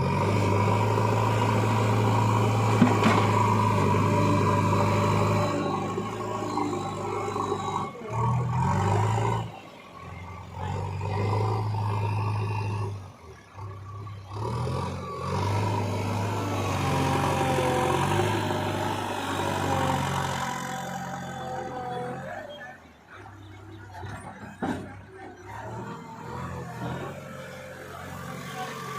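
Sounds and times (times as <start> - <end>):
diesel engine working: 0.0 - 28.9.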